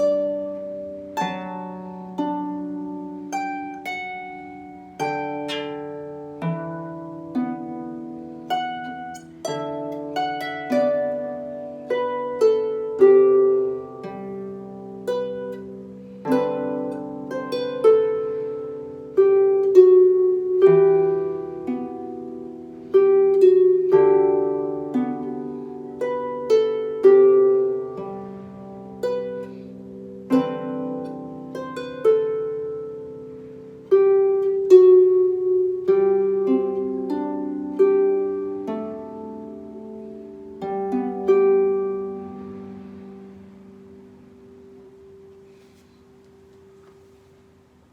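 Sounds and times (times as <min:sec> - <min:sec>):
harp playing slow melody: 0:00.0 - 0:47.9.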